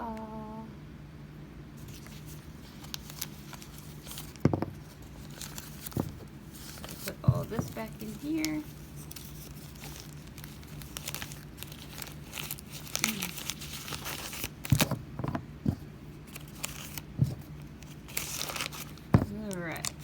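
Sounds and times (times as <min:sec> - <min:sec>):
plastic packaging crinkling: 0:01.8 - 0:15.0, 0:16.2 - 0:20.0.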